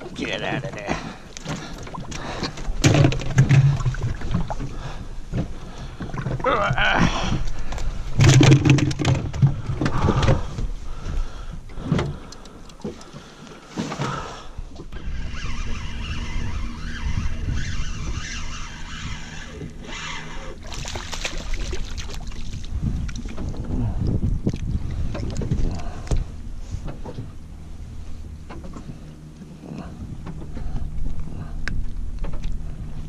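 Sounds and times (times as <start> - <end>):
wind rumble on microphone: 2.0 - 12.2, 14.5 - 33.0.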